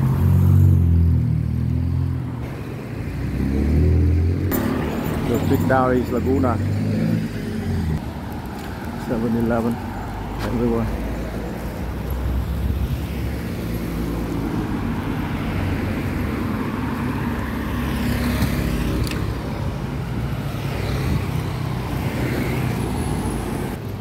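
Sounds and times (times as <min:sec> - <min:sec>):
cars and motorbikes driving past: 0:00.0 - 0:24.0.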